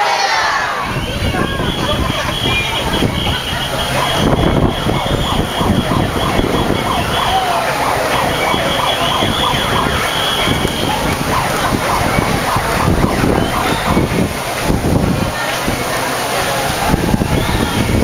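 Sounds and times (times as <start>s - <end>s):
crowd walking and chattering: 0.0s - 18.0s.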